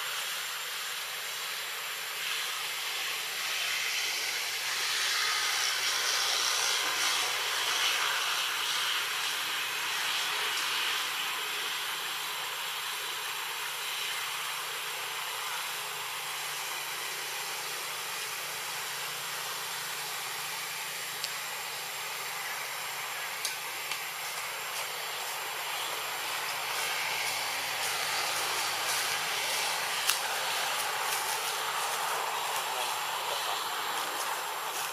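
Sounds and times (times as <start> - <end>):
hissing outdoor background noise: 0.0 - 34.9.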